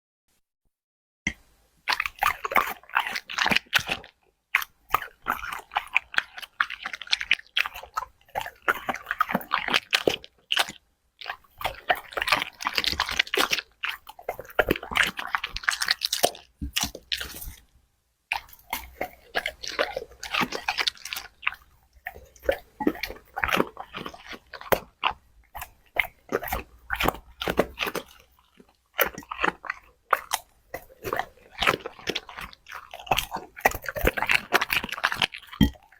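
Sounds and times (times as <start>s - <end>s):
dog crunching food: 1.9s - 17.6s, 18.3s - 35.9s.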